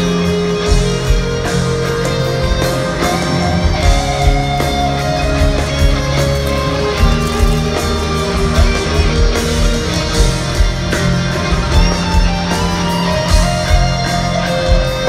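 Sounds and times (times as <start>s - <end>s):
bass guitar: 0.0s - 15.0s
drums: 0.0s - 15.0s
electric guitar sustained notes: 0.0s - 15.0s.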